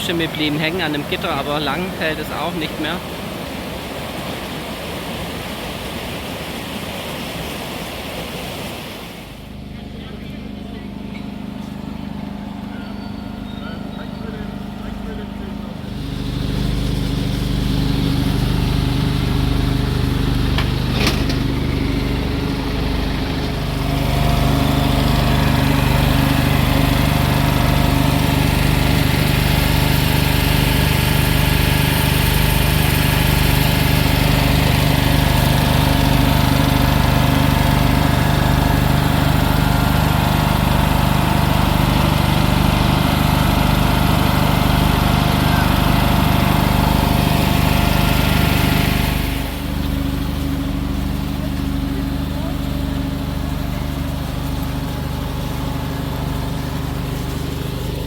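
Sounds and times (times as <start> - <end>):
small engine running: 9.4 - 58.0.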